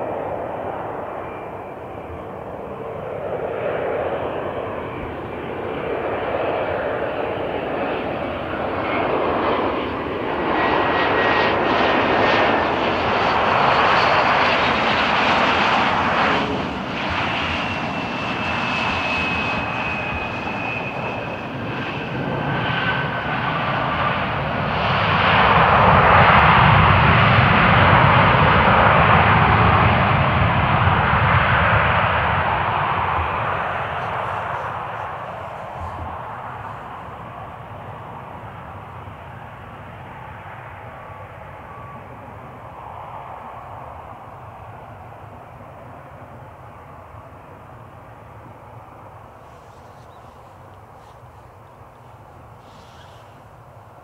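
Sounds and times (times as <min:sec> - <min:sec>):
jet engine roar with turbine whine: 0:00.0 - 0:54.0.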